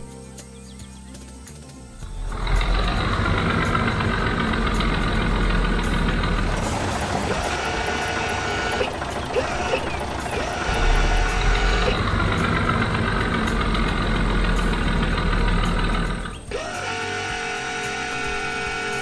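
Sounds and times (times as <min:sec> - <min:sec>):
heavy truck engine running: 0:02.0 - 0:19.0.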